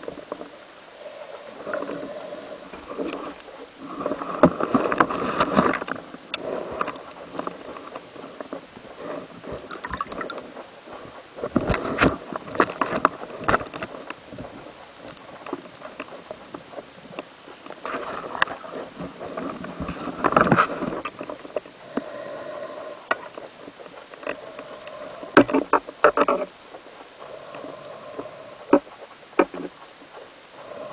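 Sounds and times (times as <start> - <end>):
faint steady hum: 0.0 - 30.9
water rushing: 0.0 - 30.9
underwater knocks and clicks: 2.7 - 22.1, 23.0 - 26.9, 27.5 - 30.3.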